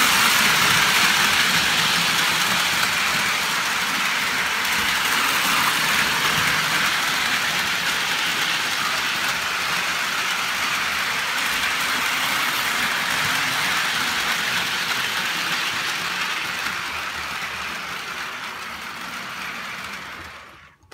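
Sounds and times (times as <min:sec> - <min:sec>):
model train wheels and motor: 0:00.0 - 0:20.9.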